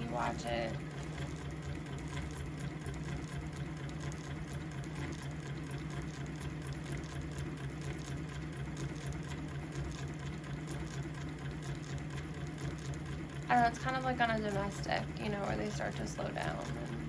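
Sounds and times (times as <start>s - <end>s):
fast whirring tick: 0.0s - 17.0s
sewing machine motor hum: 0.0s - 17.0s.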